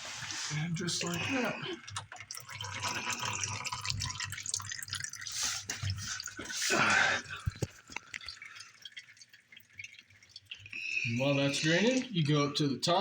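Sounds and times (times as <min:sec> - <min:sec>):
oil dripping into bucket: 0:00.5 - 0:12.6.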